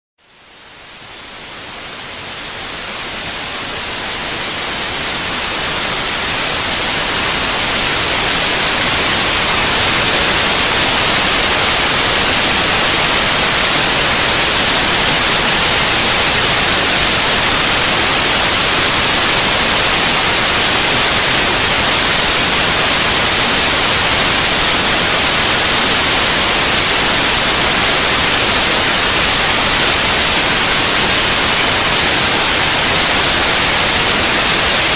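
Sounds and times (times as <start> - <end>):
white noise hiss: 0.2 - 34.9.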